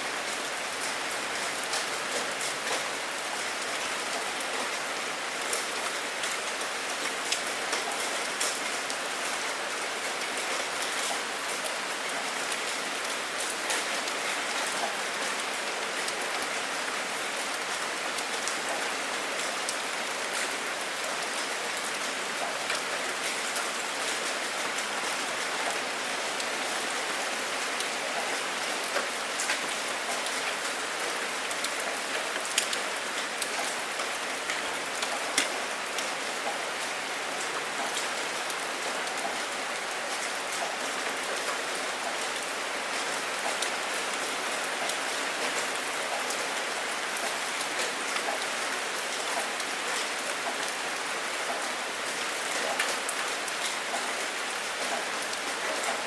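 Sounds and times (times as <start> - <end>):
steady rain: 0.0 - 56.0
raindrops ticking close by: 0.2 - 56.0.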